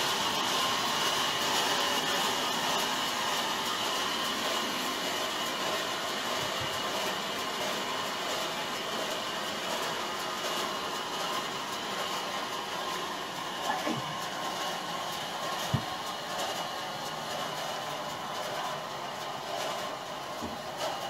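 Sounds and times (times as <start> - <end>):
band saw whirring and whining: 0.0 - 21.0.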